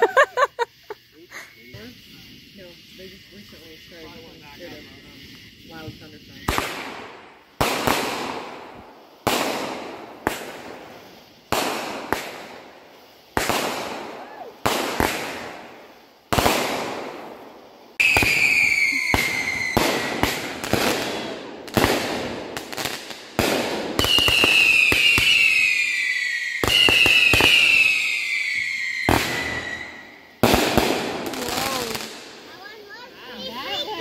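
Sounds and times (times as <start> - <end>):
shrieking firework whistles: 0.0 - 34.0
fireworks bangs and pops: 0.7 - 34.0.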